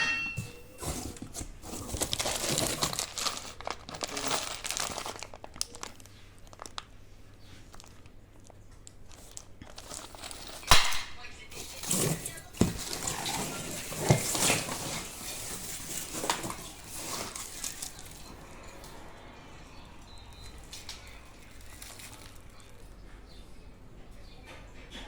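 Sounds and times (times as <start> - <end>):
packaging crinkling and rustling: 0.5 - 18.9, 20.1 - 23.0.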